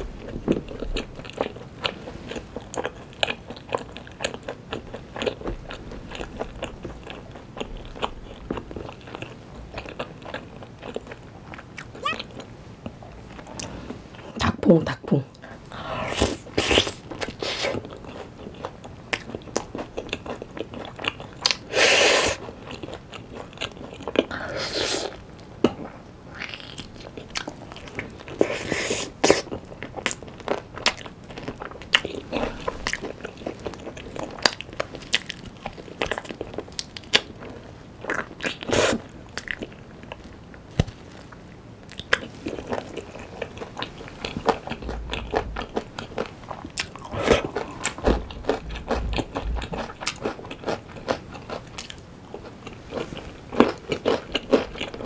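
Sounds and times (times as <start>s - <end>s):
chewing: 0.0s - 14.4s, 16.2s - 55.0s.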